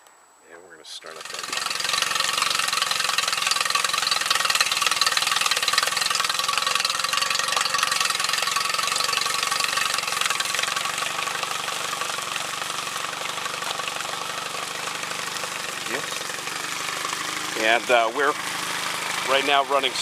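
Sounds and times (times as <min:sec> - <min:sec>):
outboard motor idling: 0:01.0 - 0:20.0.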